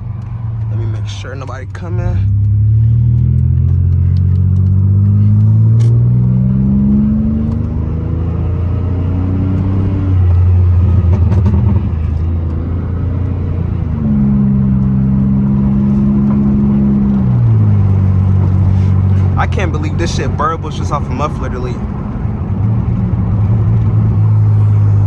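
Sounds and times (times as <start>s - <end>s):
car exhaust accelerating: 0.0s - 25.0s.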